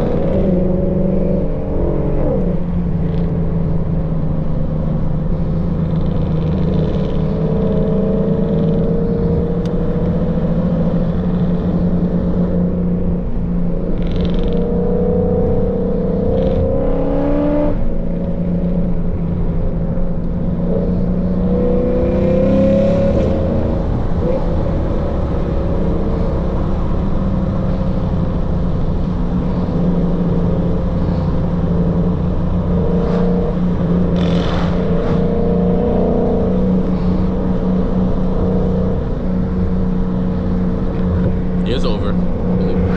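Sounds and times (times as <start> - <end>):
car engine and exhaust: 0.0 - 42.9
tyre and road rumble: 0.0 - 42.9.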